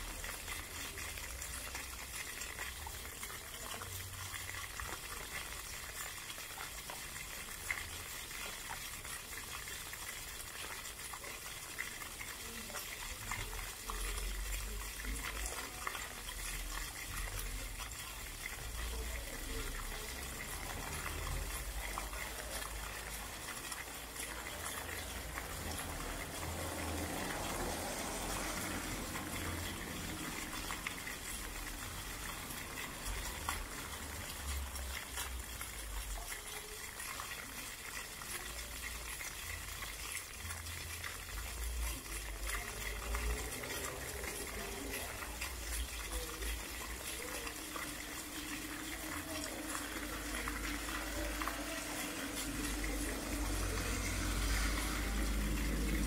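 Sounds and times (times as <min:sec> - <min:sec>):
fountain water splashing on paving: 0:00.0 - 0:56.0.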